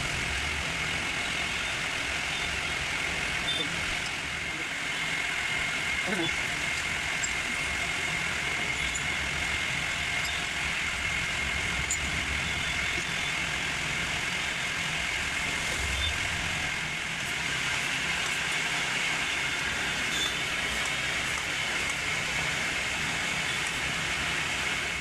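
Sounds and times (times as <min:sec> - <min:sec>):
chainsaw engine idling: 0:00.1 - 0:25.0.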